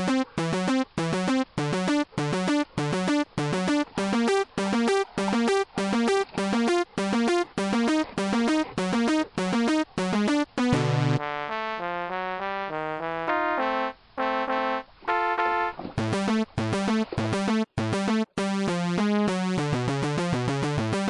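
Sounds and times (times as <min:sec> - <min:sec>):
synthesizer chord blasts: 0:00.0 - 0:21.0.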